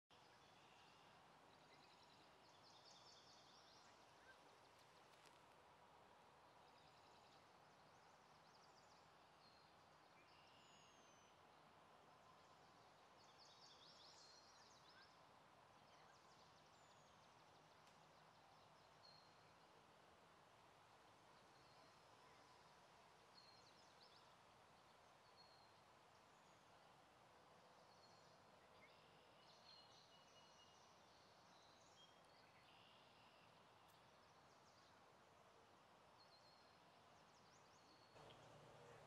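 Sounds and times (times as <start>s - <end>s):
steady low hiss: 0.1s - 39.0s.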